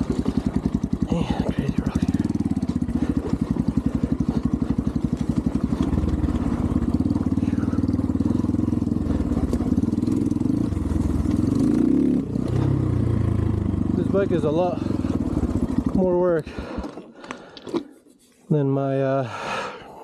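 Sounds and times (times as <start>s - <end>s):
dirt bike engine running: 0.0s - 17.6s.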